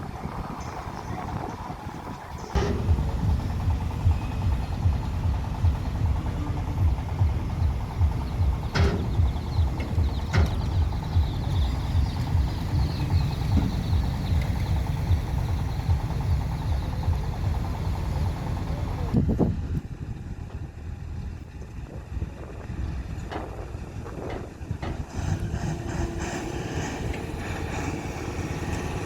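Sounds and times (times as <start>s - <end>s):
wind noise: 0.0s - 18.4s, 19.1s - 29.0s
diesel engine pulsing: 0.0s - 29.0s.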